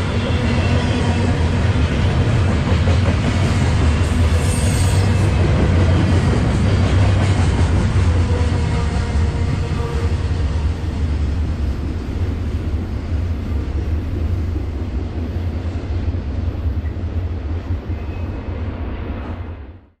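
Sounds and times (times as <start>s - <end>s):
freight train rumble: 0.0s - 20.0s.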